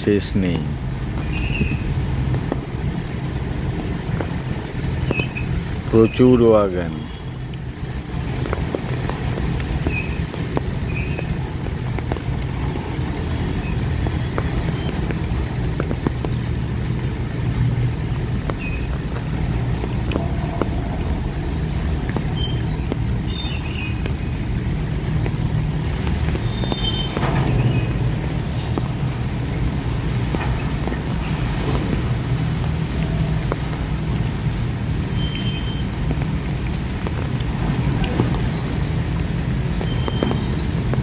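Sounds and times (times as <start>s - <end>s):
train wheels rumbling on rails: 6.9s - 41.0s.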